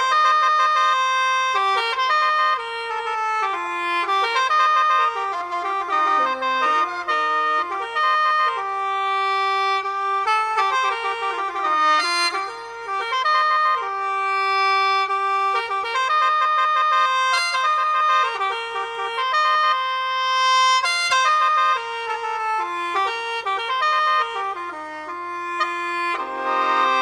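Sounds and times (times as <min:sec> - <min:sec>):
reedy wind instrument melody: 0:00.0 - 0:27.0.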